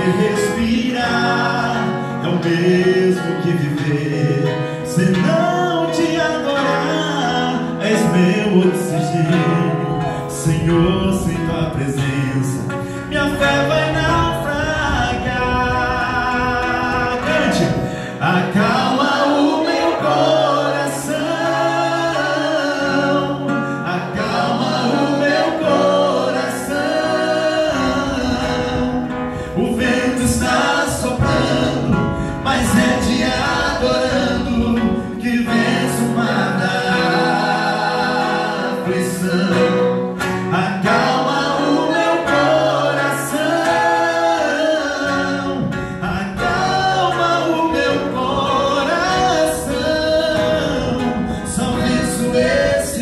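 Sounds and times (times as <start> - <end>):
men singing gospel song: 0.0 - 53.0
strummed acoustic guitar: 0.0 - 53.0.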